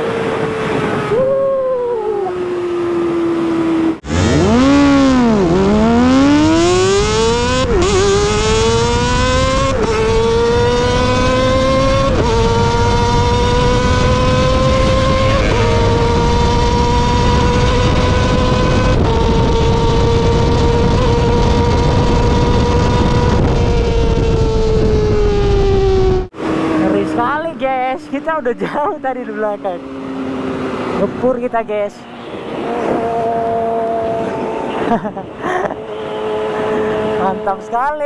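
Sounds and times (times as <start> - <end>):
wind noise: 0.0 - 27.5, 30.2 - 38.0
motorcycle engine revving high: 0.0 - 38.0.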